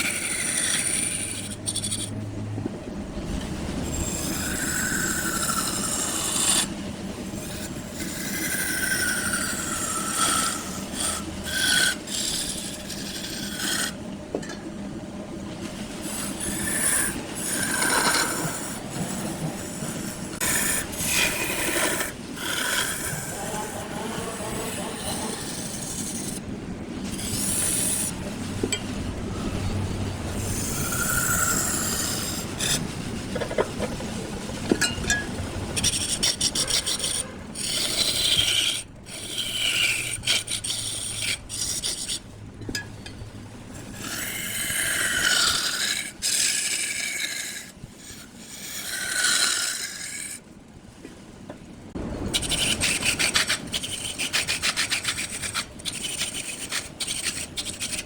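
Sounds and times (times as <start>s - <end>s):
wood scraping on a lathe: 0.0s - 2.2s, 3.3s - 14.0s, 15.6s - 42.8s, 43.7s - 50.4s, 52.0s - 58.0s.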